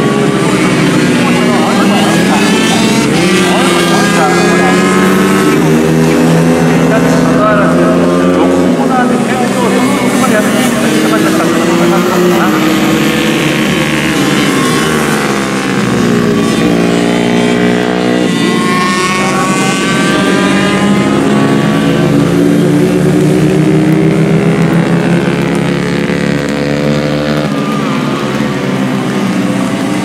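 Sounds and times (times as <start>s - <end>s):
racing motorcycles revving: 0.0s - 30.0s.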